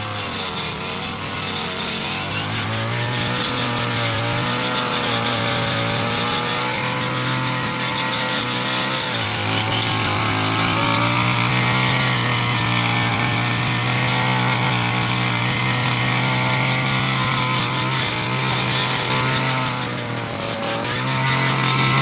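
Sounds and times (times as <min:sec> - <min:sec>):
brush cutter engine cutting grass: 0:00.0 - 0:22.0.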